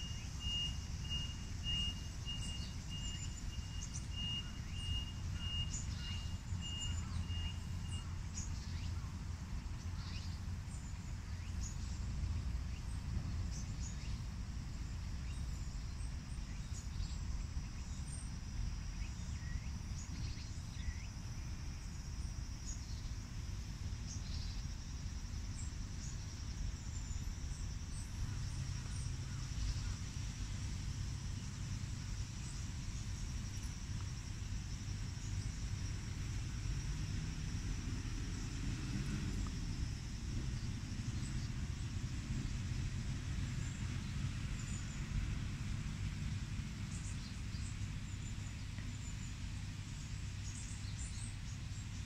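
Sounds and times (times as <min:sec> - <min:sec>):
faint high insect whine: 0:00.0 - 0:52.0.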